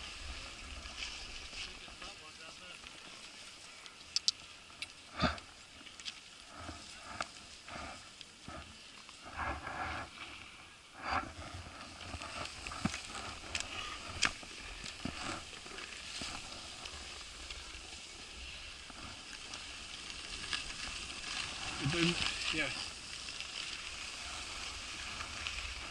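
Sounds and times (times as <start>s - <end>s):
skis and poles clicking on snow: 0.0s - 25.9s.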